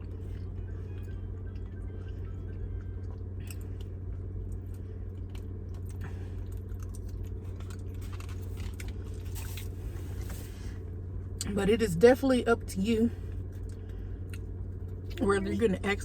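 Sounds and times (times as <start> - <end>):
chewing and crunching food: 0.0 - 11.6, 12.6 - 16.0
car engine idling: 0.0 - 16.0.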